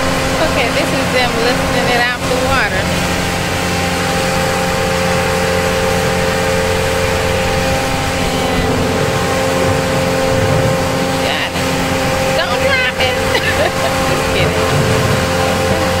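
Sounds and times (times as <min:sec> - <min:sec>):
lift engine humming: 0:00.0 - 0:16.0.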